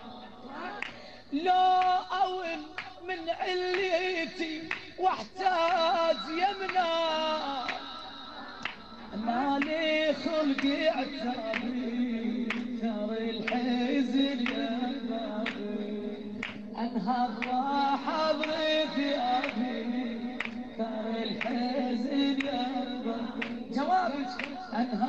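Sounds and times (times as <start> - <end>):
person singing a mournful lament: 0.0 - 25.0.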